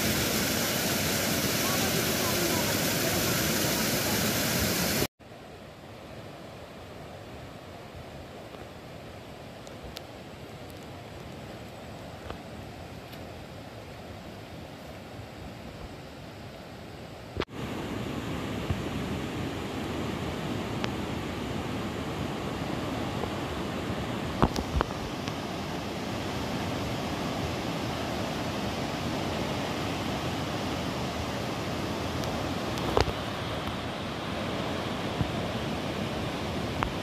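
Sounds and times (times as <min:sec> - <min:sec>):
river rushing over rapids: 0:00.0 - 0:37.0.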